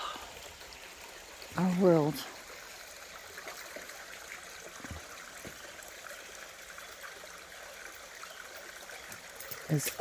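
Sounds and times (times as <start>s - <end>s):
creek water trickling over rocks: 0.0s - 10.0s.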